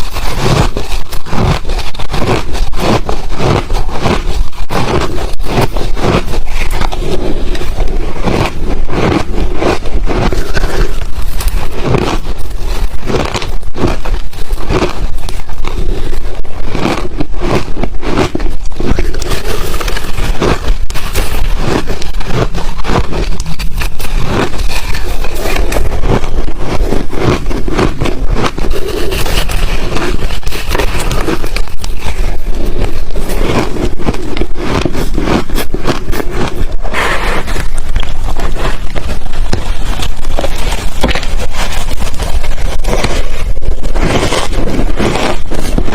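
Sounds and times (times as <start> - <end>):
ice crunching while chewed: 0.0 - 45.9.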